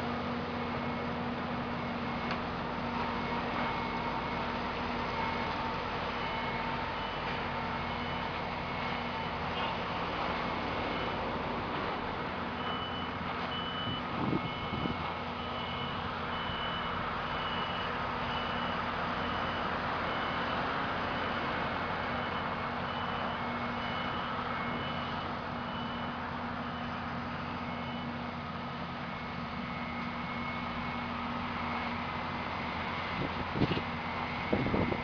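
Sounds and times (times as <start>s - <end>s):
heavy vehicle engine running: 0.0s - 35.0s
reversing alarm beeping: 0.0s - 35.0s.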